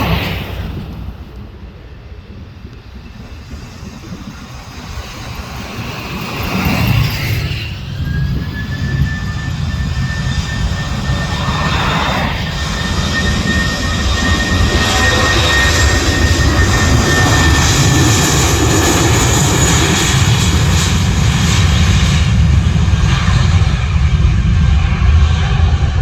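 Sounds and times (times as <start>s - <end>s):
jet engines rumbling with whine: 0.0s - 26.0s.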